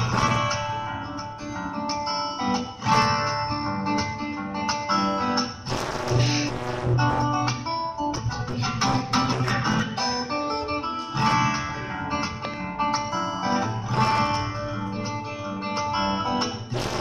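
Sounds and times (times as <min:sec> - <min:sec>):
acoustic guitar plucking: 0:00.0 - 0:17.0.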